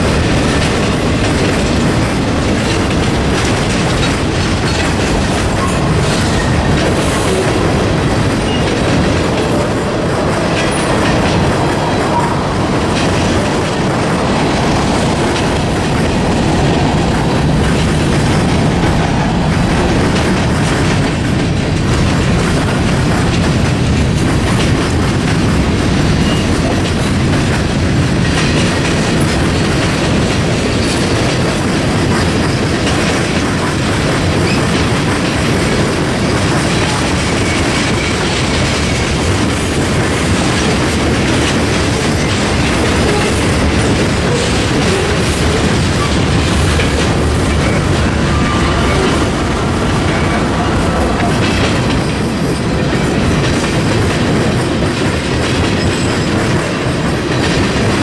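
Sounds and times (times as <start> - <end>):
wheels clicking over rail joints: 0.0 - 58.0.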